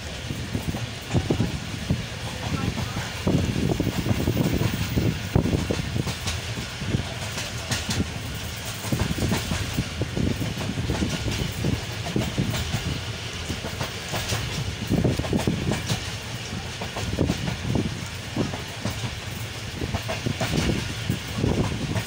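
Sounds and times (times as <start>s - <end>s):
train carriage rumble: 0.0s - 22.0s
wheels clattering over rail joints: 0.0s - 22.0s.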